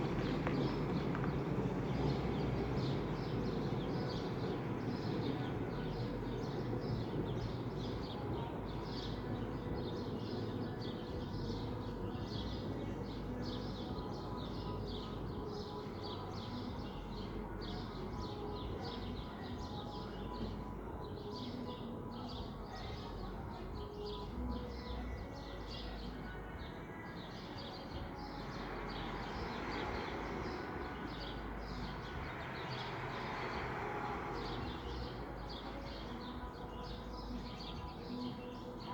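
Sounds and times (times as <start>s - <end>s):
birds chirping: 0.0s - 38.9s
muffled music bass beat: 0.0s - 38.9s.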